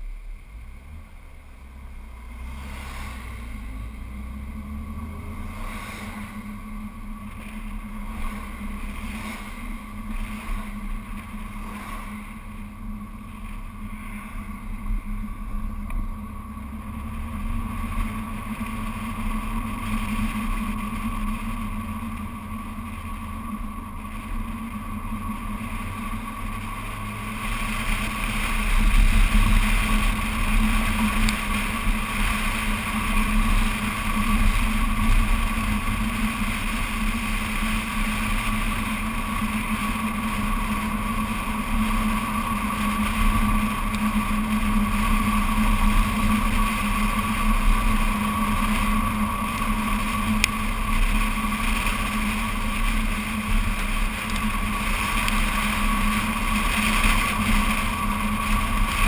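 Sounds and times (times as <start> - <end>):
car engine tyre and wind noise: 0.0 - 59.0.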